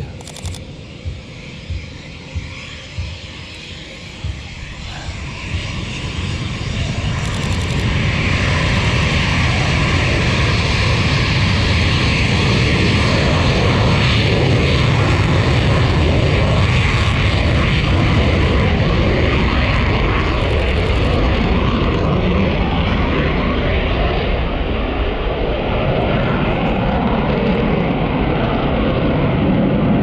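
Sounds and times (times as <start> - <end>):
jet engines roaring on afterburner: 0.0 - 30.0.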